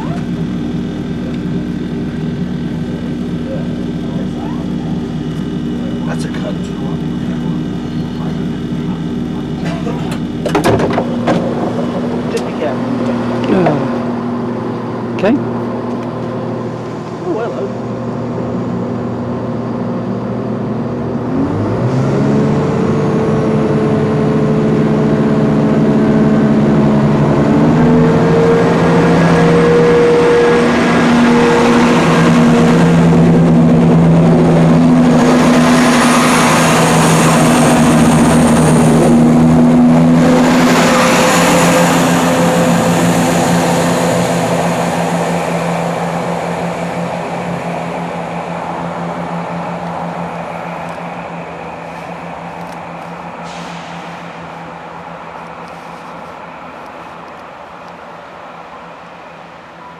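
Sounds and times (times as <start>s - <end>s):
vehicle engine speeding up: 0.0s - 57.9s.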